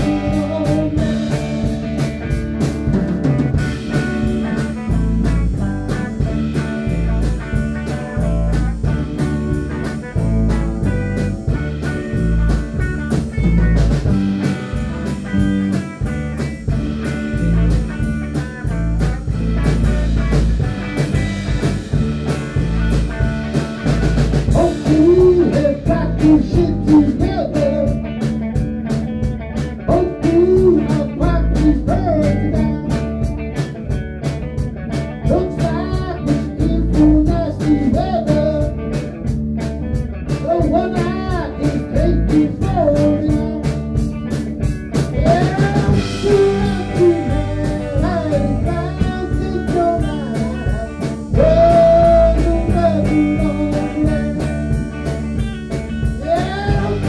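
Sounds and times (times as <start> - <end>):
bending lead guitar line: 0.0 - 57.0
blues-rock band playing live: 0.0 - 57.0.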